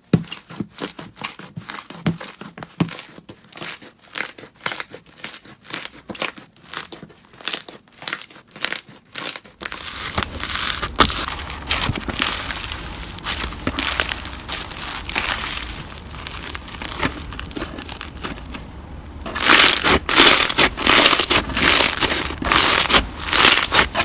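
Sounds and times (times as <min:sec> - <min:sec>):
crunchy slime crunching: 0:00.7 - 0:24.0
slime crackling and popping: 0:03.6 - 0:24.0.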